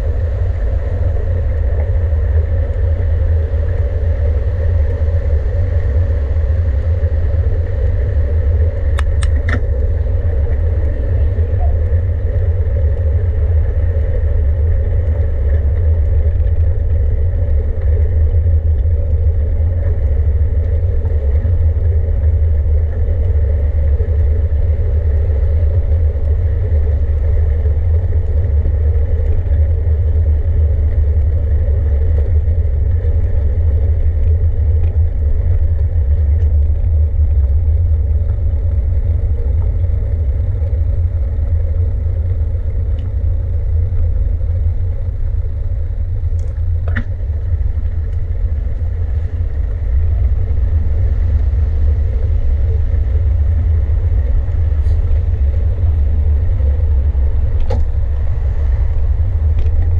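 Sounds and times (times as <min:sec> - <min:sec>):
wind and road noise: 0:00.0 - 0:59.9.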